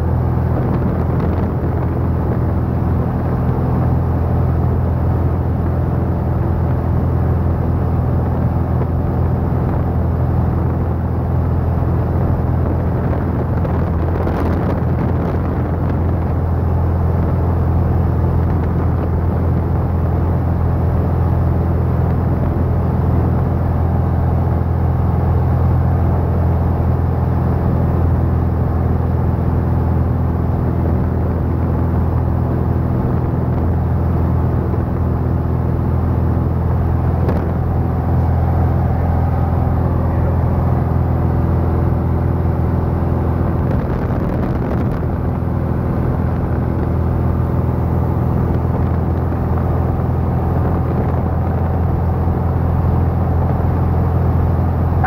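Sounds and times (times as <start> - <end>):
light airplane engine droning: 0.0 - 55.0.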